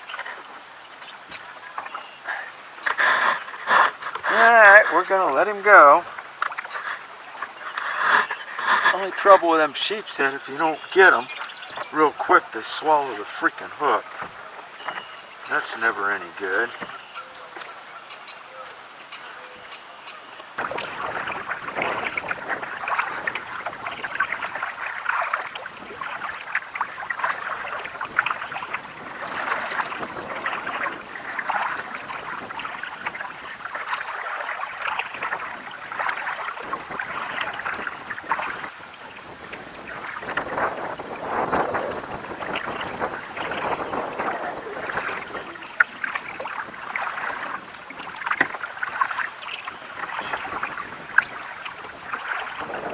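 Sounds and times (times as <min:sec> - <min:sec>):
water splashing against kayak hull: 0:00.0 - 0:18.0, 0:20.4 - 0:52.9.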